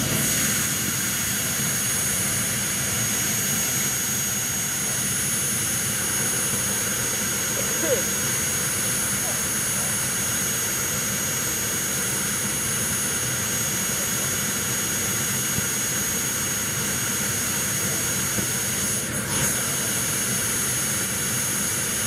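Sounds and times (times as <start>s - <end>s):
high steady whine: 0.0s - 22.0s
jet turbine running: 0.0s - 22.0s.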